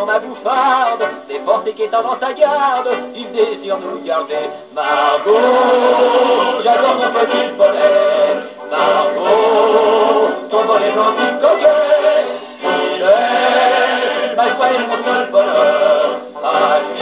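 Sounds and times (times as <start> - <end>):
song on gramophone record: 0.0 - 17.0.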